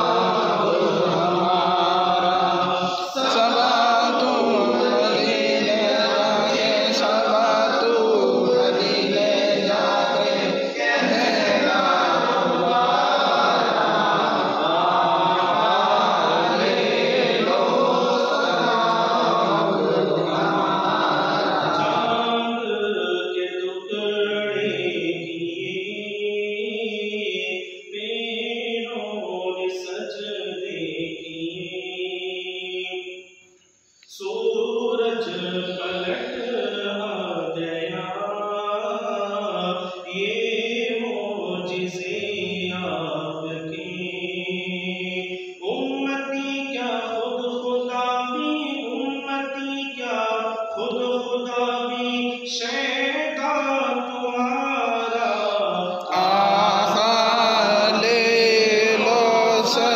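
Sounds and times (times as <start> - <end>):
man chanting melodically: 0.0 - 32.8, 34.1 - 59.9.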